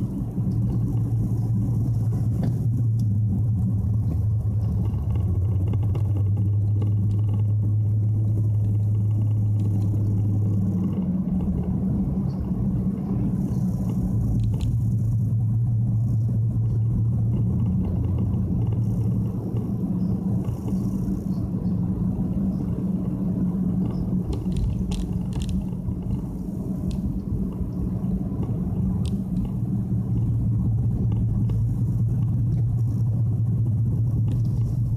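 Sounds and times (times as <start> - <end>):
car engine drone inside cabin: 0.0 - 34.9.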